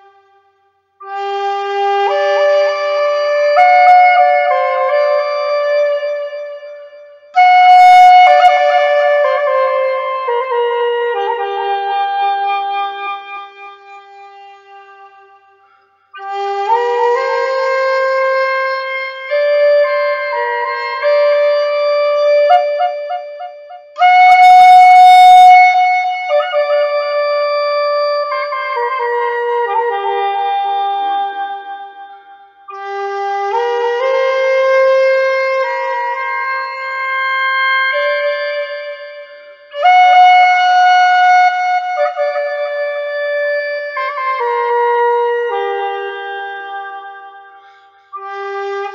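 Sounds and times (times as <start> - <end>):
flute playing slow melody: 0.0 - 48.9.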